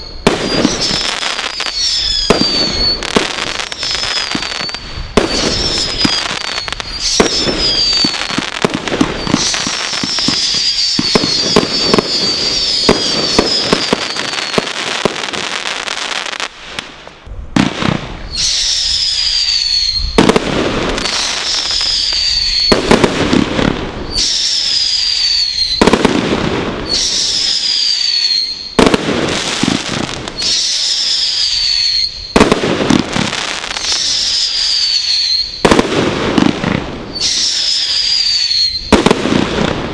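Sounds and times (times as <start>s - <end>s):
falling firework whistles: 0.0s - 16.9s, 17.6s - 39.9s
firework bangs: 0.0s - 39.9s
firework crackling: 0.0s - 39.9s.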